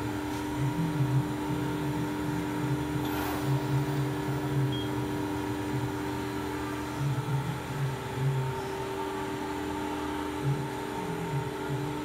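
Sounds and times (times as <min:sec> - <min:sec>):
hydraulic motor and pump hum: 0:00.0 - 0:12.0.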